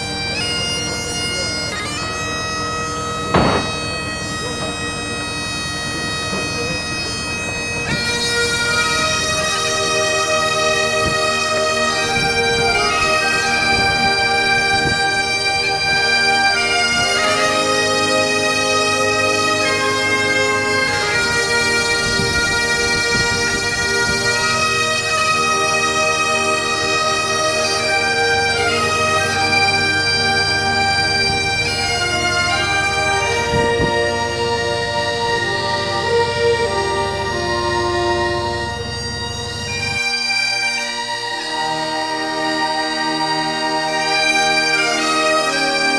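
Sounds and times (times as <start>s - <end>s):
bagpipe music: 0.0s - 45.9s.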